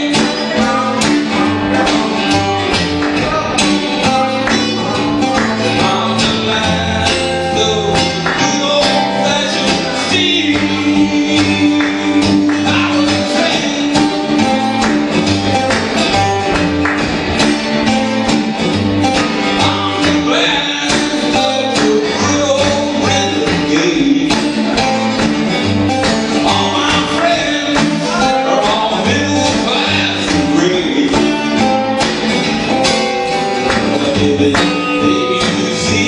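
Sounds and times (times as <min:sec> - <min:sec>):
acoustic guitars strumming: 0:00.0 - 0:36.0.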